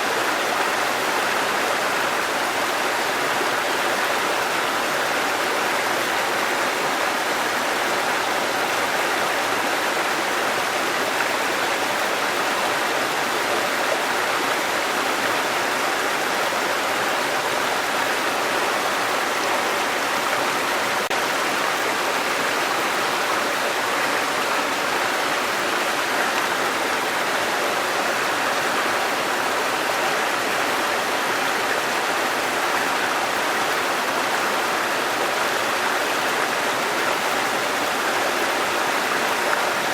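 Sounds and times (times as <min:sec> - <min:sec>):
fast-running stream water: 0:00.0 - 0:39.9
waterfall rushing: 0:00.0 - 0:39.9.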